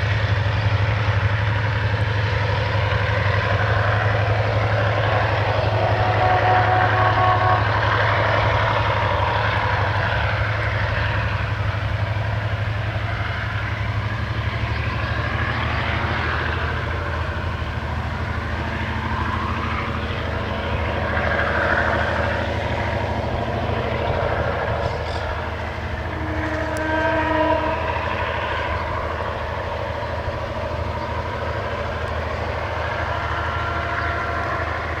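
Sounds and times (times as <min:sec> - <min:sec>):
diesel train engine drone: 0:00.0 - 0:35.0
train rolling rumble: 0:00.0 - 0:35.0.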